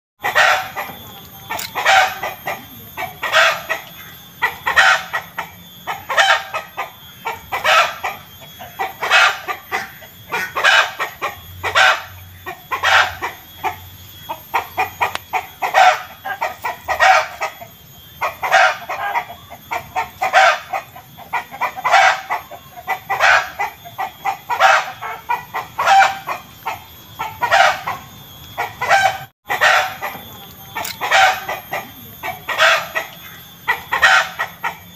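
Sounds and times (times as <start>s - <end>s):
chicken cackling: 0.2s - 34.9s.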